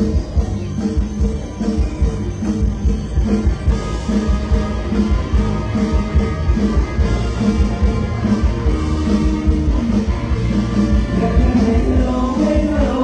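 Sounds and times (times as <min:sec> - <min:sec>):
instrumental band music: 0:00.0 - 0:13.0.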